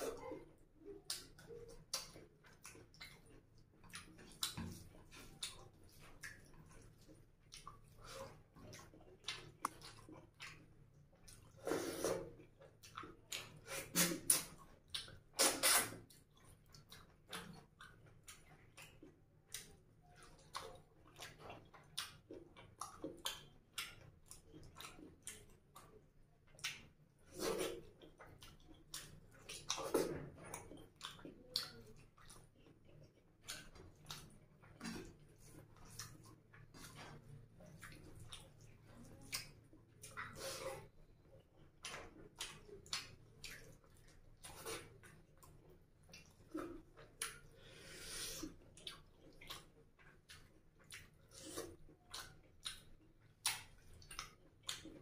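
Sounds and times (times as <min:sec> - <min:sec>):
wet chewing and mouth smacks: 0:00.0 - 0:55.0.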